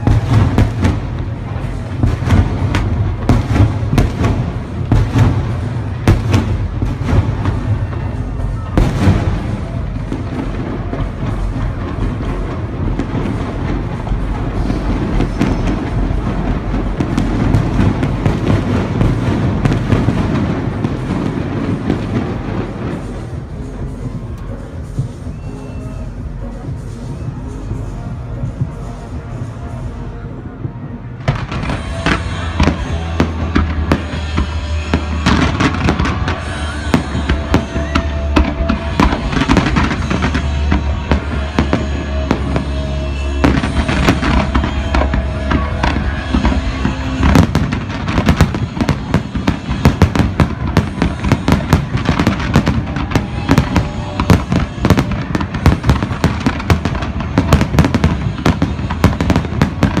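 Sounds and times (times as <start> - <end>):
fireworks bangs and crackles: 0.0 - 60.0
music playing: 0.0 - 60.0.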